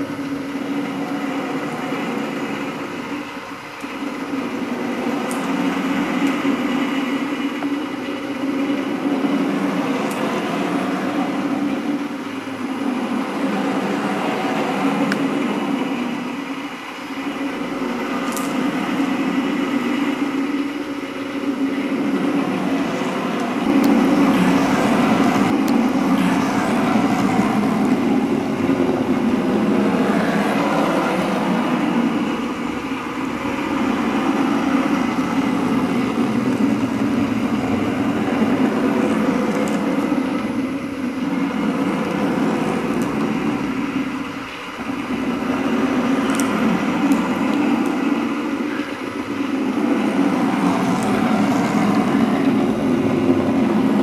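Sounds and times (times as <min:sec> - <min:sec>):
drawing machine mechanical hum: 0:00.0 - 0:54.0.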